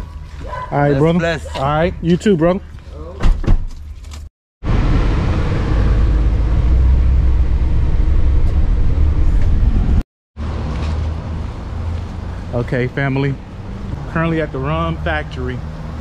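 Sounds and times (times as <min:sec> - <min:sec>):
vehicle road noise rumble: 0:00.0 - 0:16.0.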